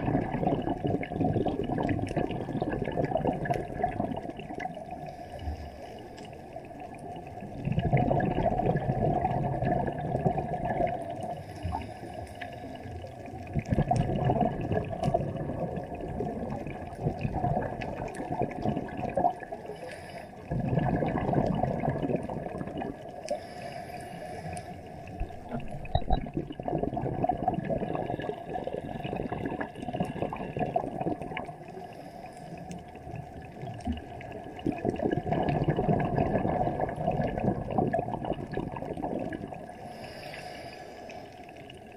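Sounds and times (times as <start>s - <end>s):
muffled underwater rushing and bubbling: 0.0s - 41.9s.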